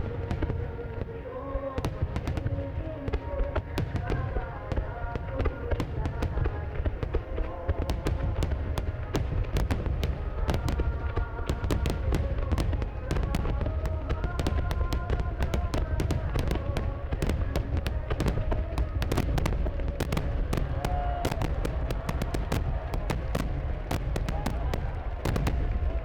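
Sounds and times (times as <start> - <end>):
fireworks crackling: 0.0 - 26.0.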